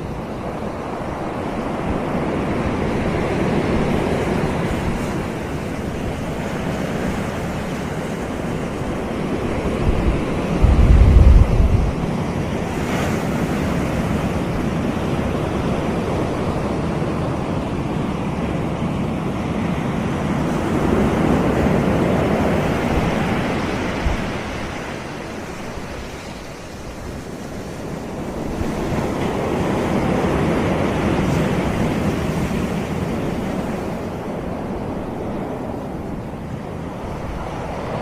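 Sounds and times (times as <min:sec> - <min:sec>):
ocean surf washing on beach: 0:00.0 - 0:38.0
wind rumble on microphone: 0:00.0 - 0:38.0.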